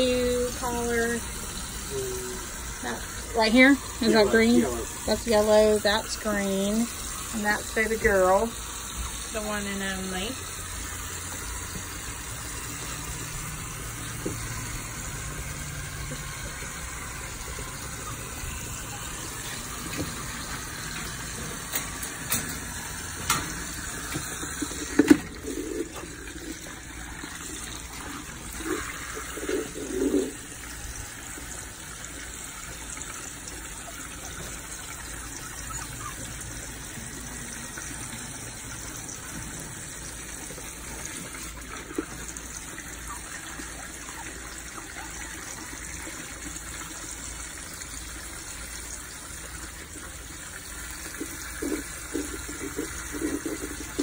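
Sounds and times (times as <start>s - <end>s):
hose water splashing on wooden deck: 0.0s - 54.0s.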